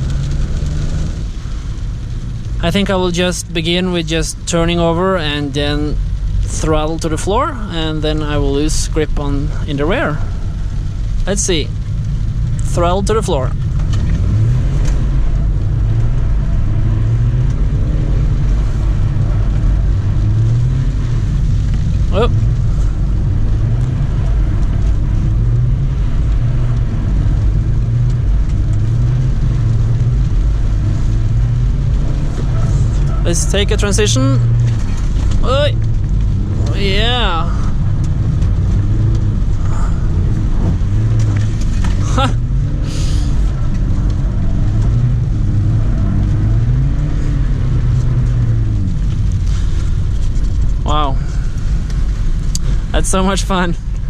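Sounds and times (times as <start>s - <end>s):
diesel car engine droning: 0.0s - 54.0s
road noise: 0.0s - 54.0s.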